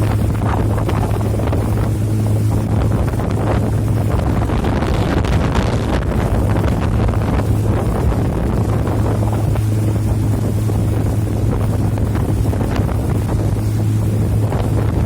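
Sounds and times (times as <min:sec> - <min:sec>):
boat engine droning: 0:00.0 - 0:15.0
wind buffeting microphone: 0:00.0 - 0:15.0.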